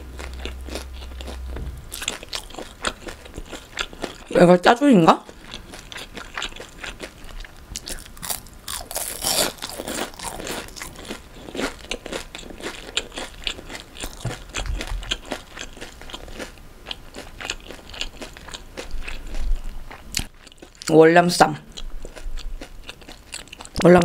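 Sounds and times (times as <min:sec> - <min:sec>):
crunching and chewing: 0:00.0 - 0:04.3, 0:05.2 - 0:21.0, 0:21.7 - 0:24.0.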